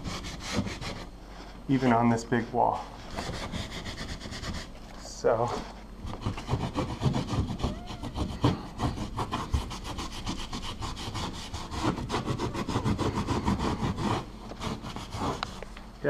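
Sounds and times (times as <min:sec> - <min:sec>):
rag scraping over drywall compound: 0:00.0 - 0:04.7, 0:05.3 - 0:15.6.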